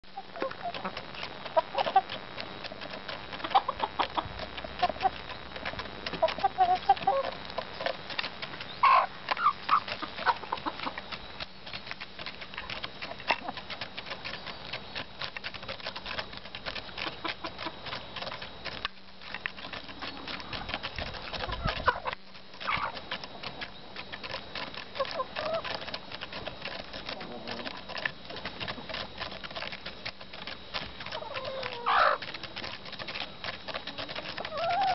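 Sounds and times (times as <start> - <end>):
hens clucking: 0.1 - 34.9
beaks clicking while pecking: 0.4 - 34.9.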